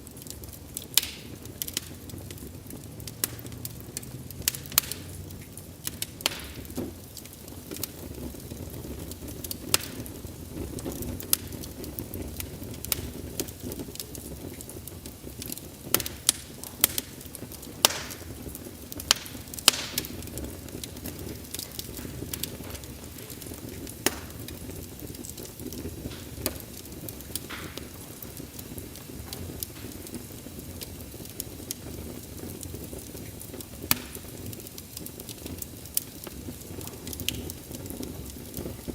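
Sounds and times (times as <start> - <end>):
low rush of flames: 0.0 - 38.9
wood fire crackling and popping: 0.0 - 38.9.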